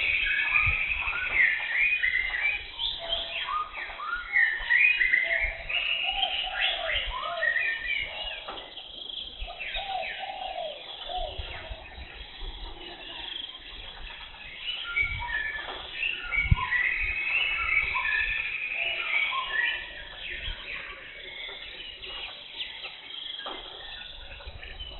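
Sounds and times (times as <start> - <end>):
birds chirping and whistling: 0.0 - 24.9.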